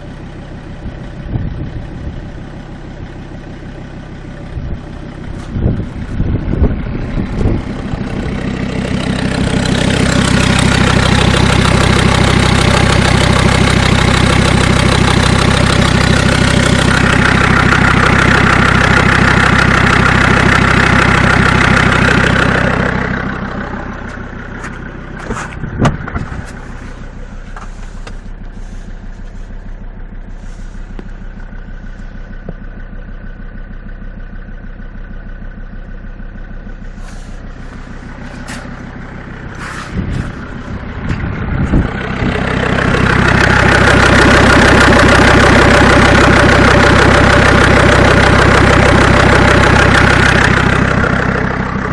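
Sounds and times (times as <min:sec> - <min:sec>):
diesel engine revving and idling: 0:00.0 - 0:51.9.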